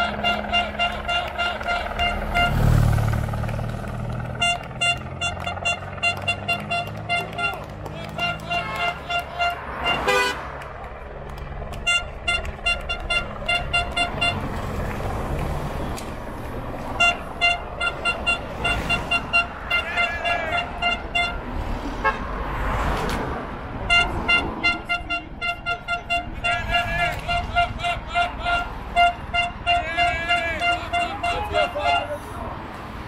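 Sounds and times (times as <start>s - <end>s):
horn short blasts: 0.0s - 3.1s, 3.8s - 10.5s, 11.6s - 14.6s, 16.8s - 22.3s, 23.8s - 32.4s
cars driving past: 0.0s - 33.0s.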